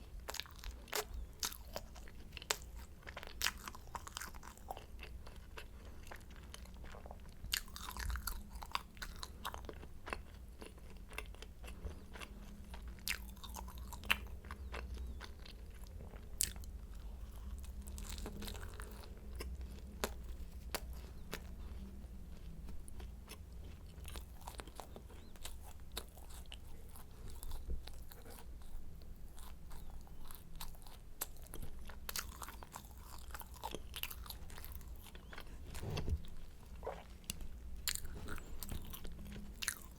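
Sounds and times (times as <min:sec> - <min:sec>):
pastry crunching while eating: 0:00.0 - 0:39.9.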